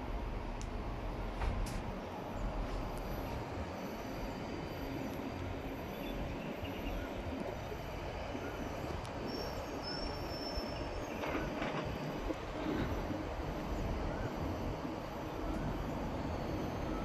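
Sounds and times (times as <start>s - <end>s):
cable car rumble and hiss: 0.0s - 17.0s
faint high whine: 0.0s - 17.0s.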